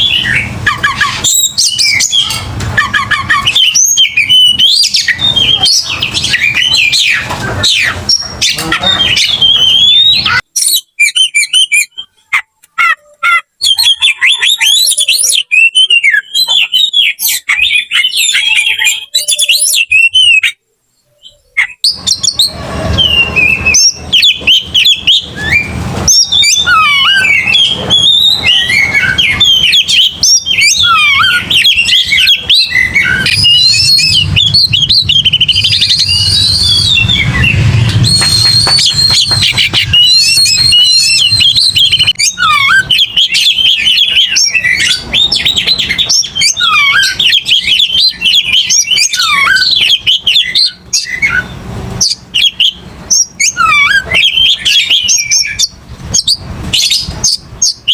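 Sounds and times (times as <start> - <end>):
magpie-robin singing: 0.0 - 57.9.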